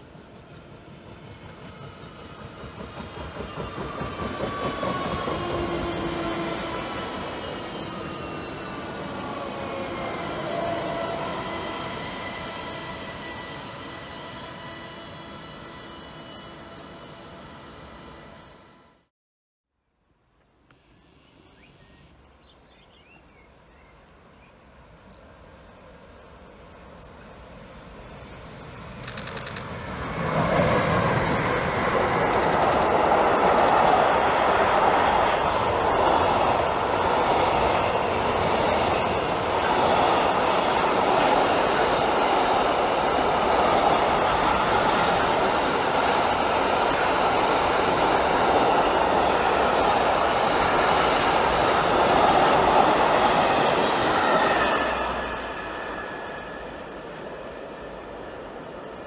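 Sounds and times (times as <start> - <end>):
freight train passing: 0.0 - 19.1, 23.1 - 59.0.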